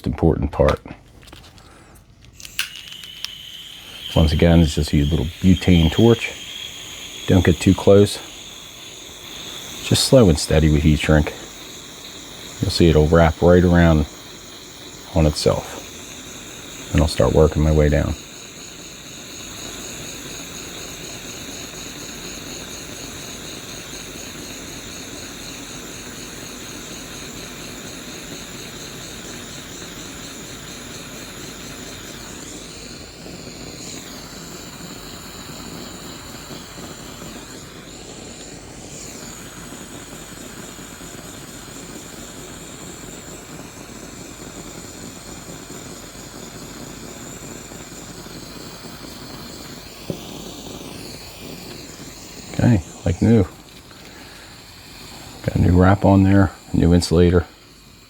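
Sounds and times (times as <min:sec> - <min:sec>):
butane torch hissing: 0:00.0 - 0:58.0.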